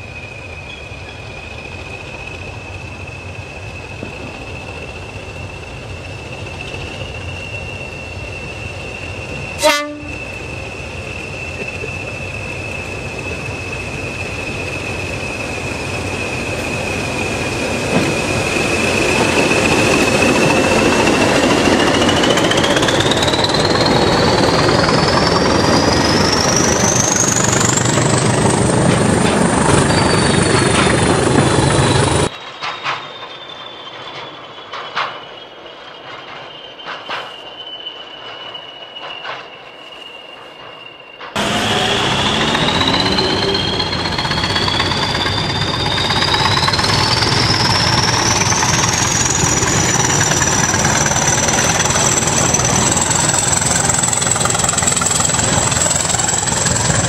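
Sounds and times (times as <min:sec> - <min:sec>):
high locomotive whistle: 0:00.0 - 0:28.5, 0:29.2 - 0:57.0
diesel locomotive engine: 0:00.0 - 0:57.0.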